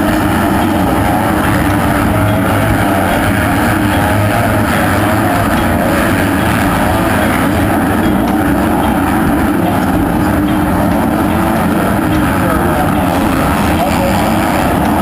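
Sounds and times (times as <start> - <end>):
dirt bike engines racing: 0.0 - 15.0.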